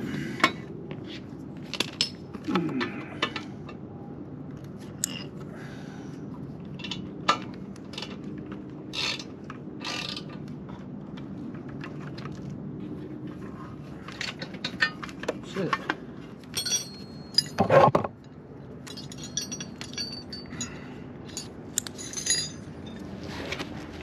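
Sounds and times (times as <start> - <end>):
cables rustling and scraping: 0.4 - 3.8, 4.5 - 24.0.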